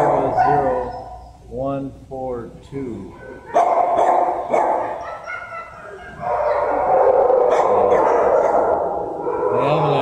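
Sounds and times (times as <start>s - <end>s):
dogs barking: 0.0s - 1.4s, 3.0s - 10.0s.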